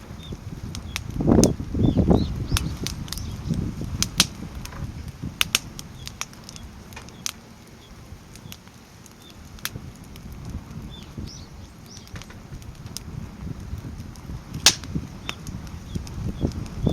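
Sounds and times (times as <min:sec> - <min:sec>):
firewood burning with crackles: 0:00.0 - 0:16.9.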